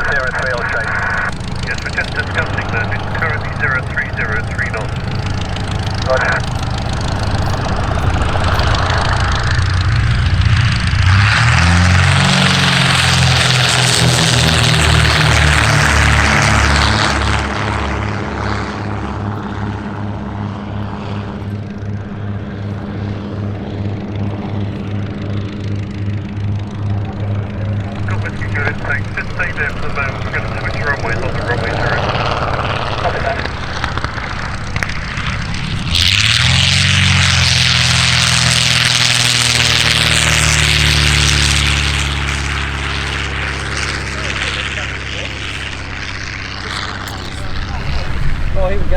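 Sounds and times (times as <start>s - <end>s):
propeller aircraft flying past: 0.0s - 48.9s.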